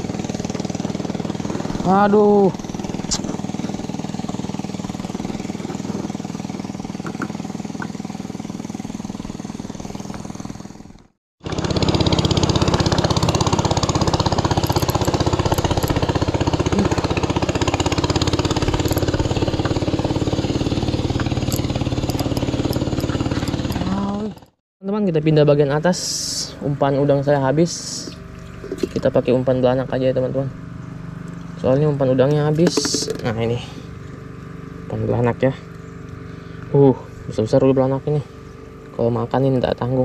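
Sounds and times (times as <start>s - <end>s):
small boat engine running: 0.0s - 40.0s.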